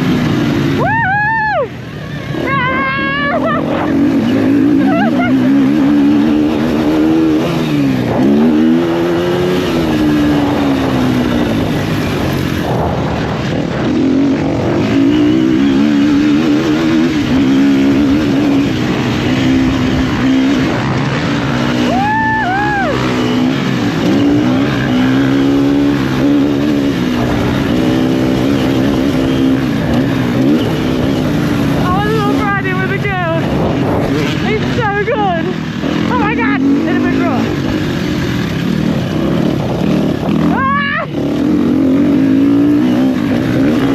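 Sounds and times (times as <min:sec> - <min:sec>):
motocross bike engine revving: 0:00.0 - 0:43.9.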